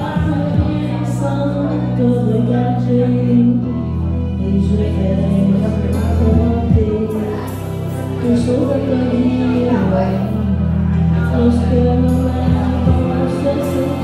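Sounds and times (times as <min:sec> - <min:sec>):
low keyboard chords: 0:00.0 - 0:14.0.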